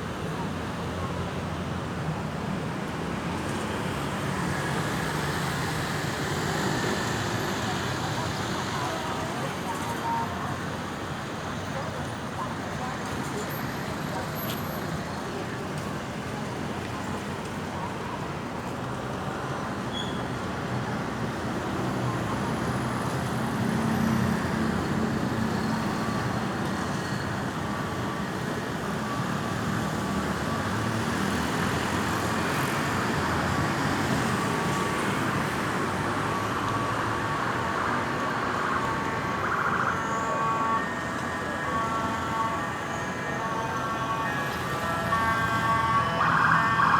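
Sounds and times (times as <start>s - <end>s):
road traffic: 0.0s - 46.9s
emergency vehicle siren: 3.8s - 12.6s, 17.3s - 46.9s.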